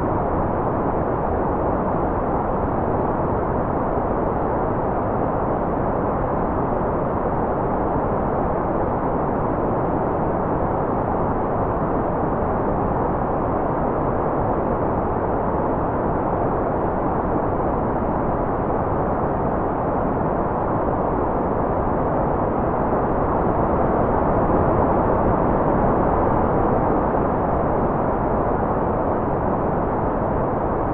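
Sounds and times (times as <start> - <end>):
dull rumbly white noise: 0.0 - 30.9.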